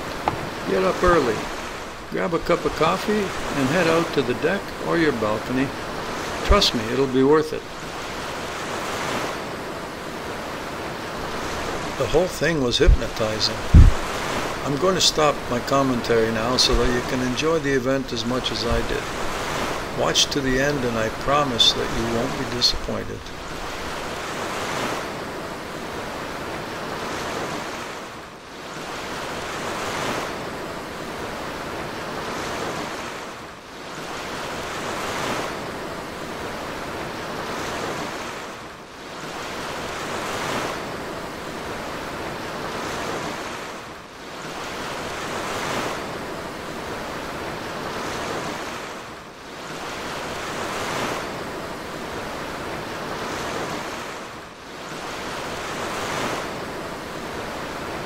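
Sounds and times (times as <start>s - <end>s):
ship wake water churning: 0.0s - 58.0s
wind over the sea: 0.0s - 58.0s.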